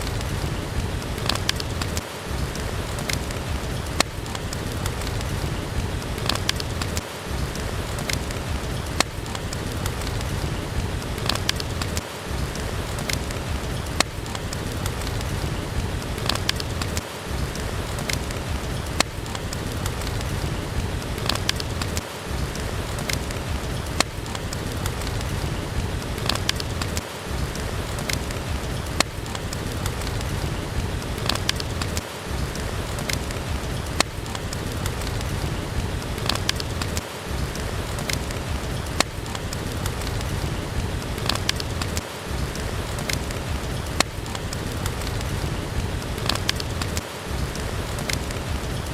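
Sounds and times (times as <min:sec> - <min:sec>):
steady rain: 0:00.0 - 0:48.9
wood fire crackling: 0:00.0 - 0:48.9.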